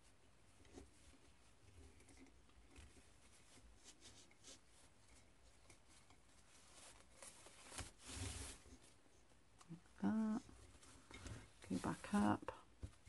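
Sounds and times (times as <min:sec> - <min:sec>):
faint rustling of ribbon: 0:00.0 - 0:13.0.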